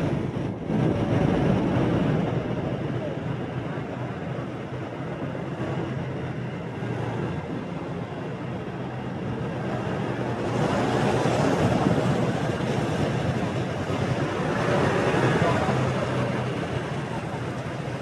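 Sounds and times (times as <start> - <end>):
motorbike engine hum: 0.0 - 18.0
road and wind rush: 0.0 - 18.0.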